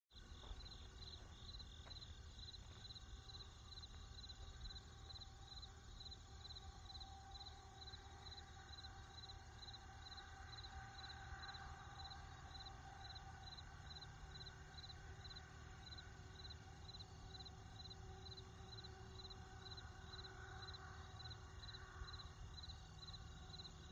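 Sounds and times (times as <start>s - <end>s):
crickets chirping: 0.1s - 23.9s.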